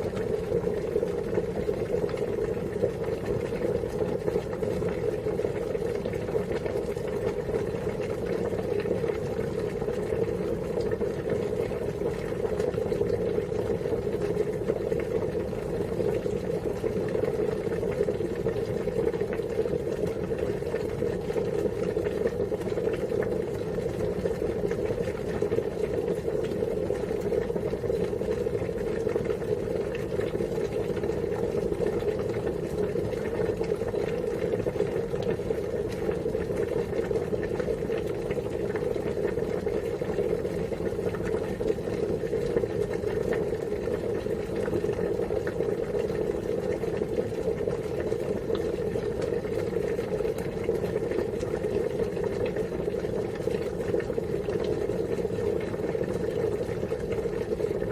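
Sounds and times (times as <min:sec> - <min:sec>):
water boiling: 0:00.0 - 0:57.9.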